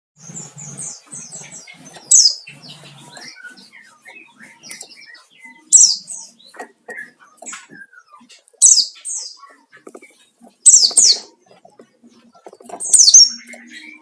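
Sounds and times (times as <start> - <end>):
bird twittering high chirps: 0.2 - 14.0.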